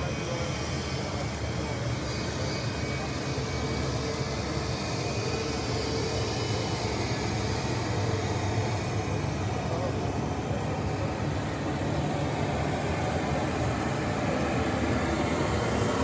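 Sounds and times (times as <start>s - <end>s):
jet engines humming: 0.0s - 16.0s.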